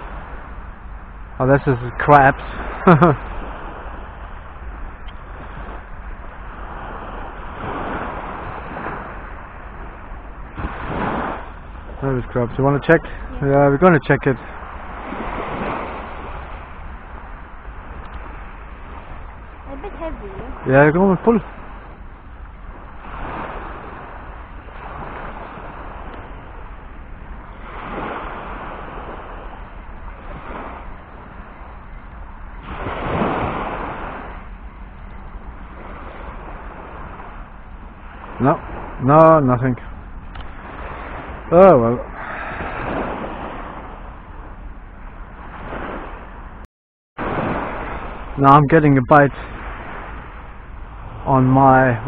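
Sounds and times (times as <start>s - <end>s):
small waves washing onto shore: 0.0s - 46.6s, 47.2s - 52.0s
wind rumbling on microphone: 0.0s - 52.0s.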